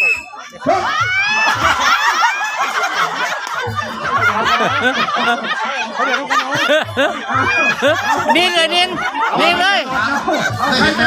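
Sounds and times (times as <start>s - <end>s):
crowd laughing: 0.0s - 11.0s
crowd shouting and cheering: 0.0s - 11.0s.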